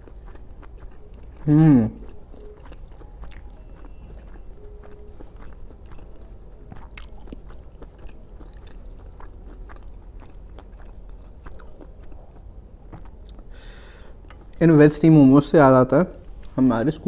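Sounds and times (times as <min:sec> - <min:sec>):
person chewing food: 0:00.0 - 0:14.7.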